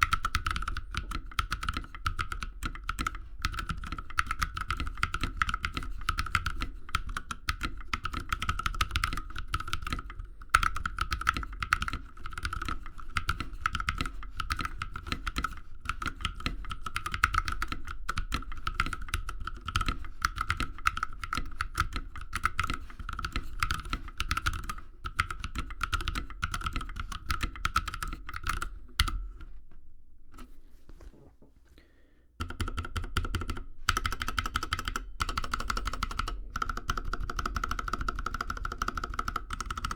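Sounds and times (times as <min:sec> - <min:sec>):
typing on mechanical keyboard: 0:00.0 - 0:29.1, 0:32.4 - 0:39.9.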